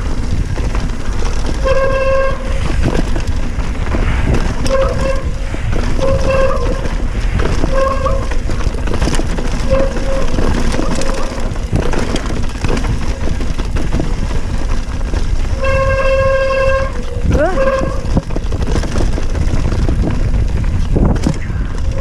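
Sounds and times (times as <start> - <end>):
bike tyres rumbling on rocky trail: 0.0 - 22.0.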